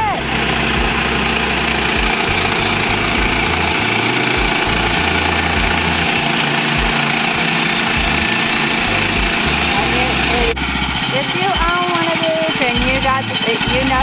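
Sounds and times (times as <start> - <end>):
sawmill engine under load: 0.0 - 14.0.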